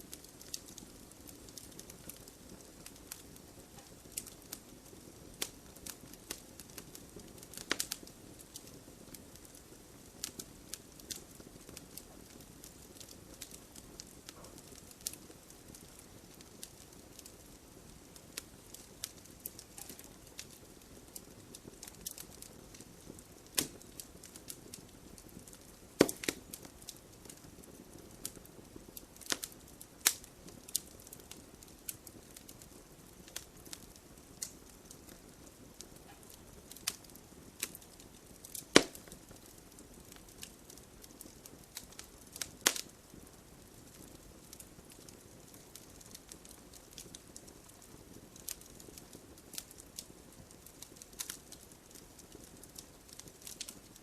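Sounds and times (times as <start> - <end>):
faint steady hiss: 0.0 - 54.0
fire snapping and popping: 0.0 - 54.0
logs crackling in fire: 0.0 - 54.0.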